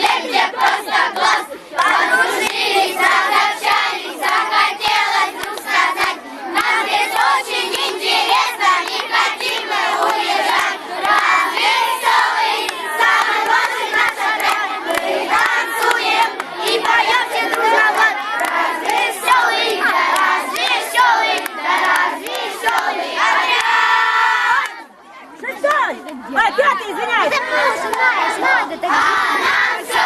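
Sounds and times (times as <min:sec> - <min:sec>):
children singing together: 0:00.0 - 0:24.8, 0:27.3 - 0:30.0.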